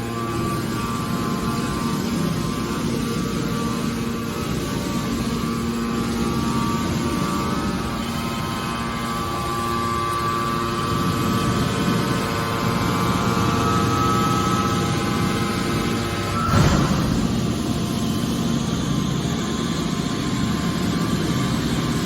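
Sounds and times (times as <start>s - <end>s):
hydraulic baler machine drone: 0.0s - 22.0s
hydraulic power unit whine: 0.0s - 22.0s.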